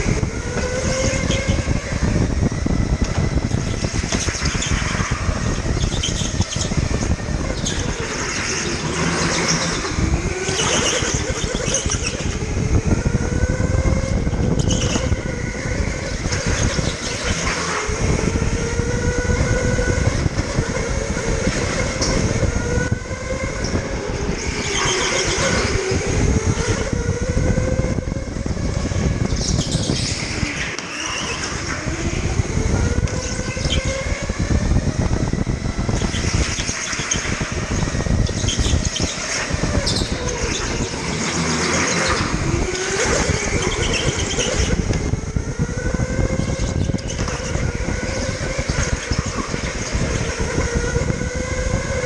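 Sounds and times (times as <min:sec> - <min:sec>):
electric kart motor whining: 0:00.0 - 0:52.0
kart rolling and rattling: 0:00.0 - 0:52.0.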